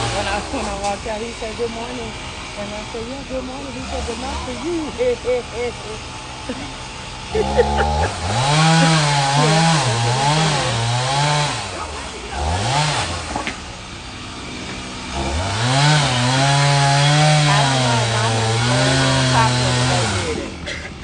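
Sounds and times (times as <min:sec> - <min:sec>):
chainsaw revving and cutting: 0:00.0 - 0:20.8.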